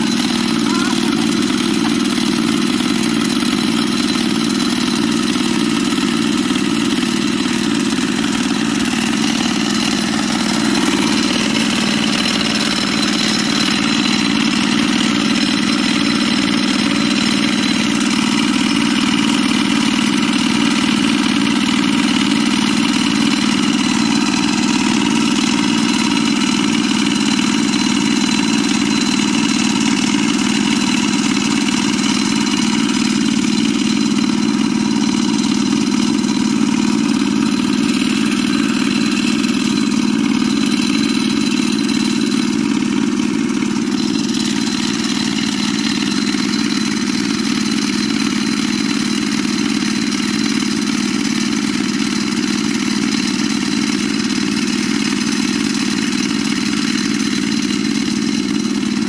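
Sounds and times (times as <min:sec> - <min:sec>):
small engine chugging: 0:00.0 - 0:59.0.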